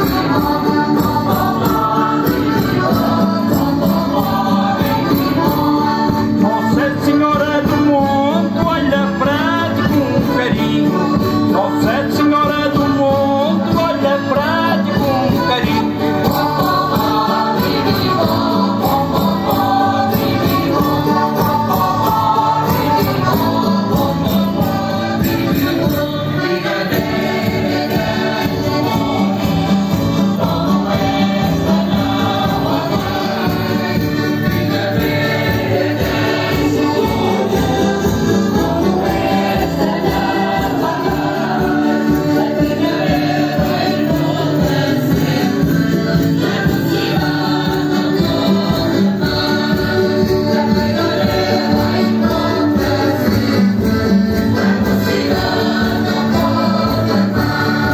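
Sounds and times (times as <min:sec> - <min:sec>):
group singing folk music: 0:00.0 - 0:57.9
tambourine beat: 0:00.0 - 0:57.9.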